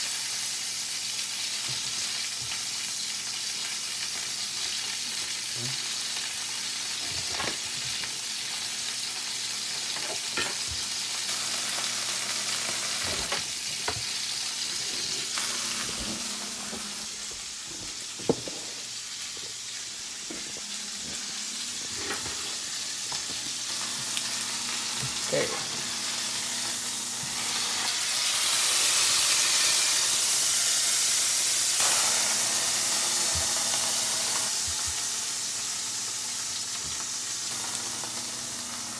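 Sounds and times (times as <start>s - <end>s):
steak sizzling in oil: 0.0s - 38.9s.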